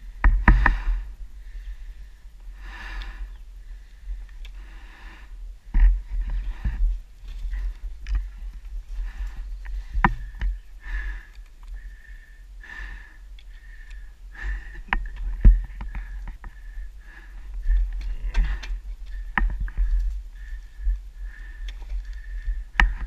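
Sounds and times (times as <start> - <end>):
heavy breathing: 0.4 - 23.0.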